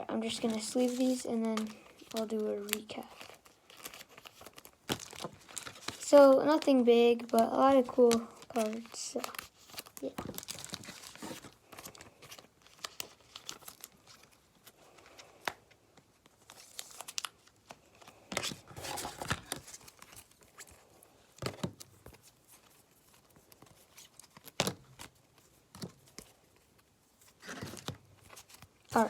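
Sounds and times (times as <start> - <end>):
plastic sleeves crinkling: 0.0 - 29.0.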